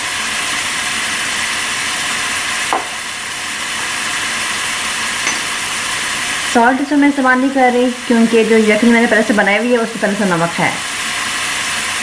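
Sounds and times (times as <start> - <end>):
sauce sizzling in a wok: 0.0 - 12.0.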